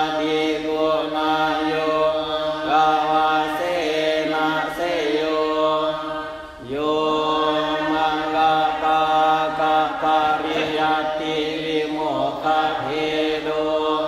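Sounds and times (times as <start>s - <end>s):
monks chanting: 0.0s - 14.0s.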